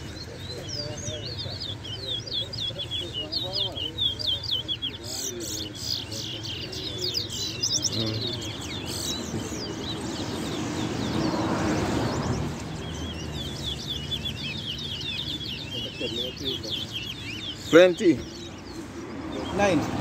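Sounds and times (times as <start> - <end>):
finches twittering song: 0.0 - 20.0.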